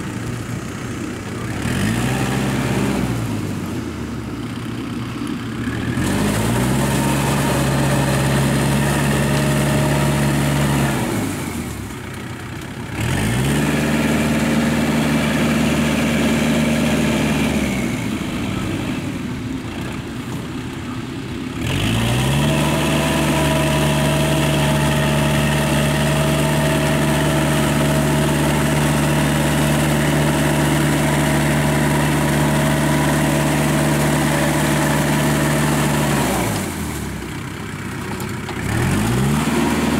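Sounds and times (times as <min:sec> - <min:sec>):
rotary tiller churning wet field: 0:00.0 - 0:39.9
tractor diesel engine revving: 0:00.0 - 0:39.9.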